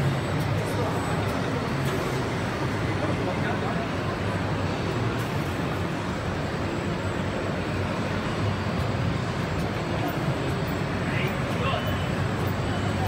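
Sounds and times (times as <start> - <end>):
label printing machine running: 0.0 - 13.0.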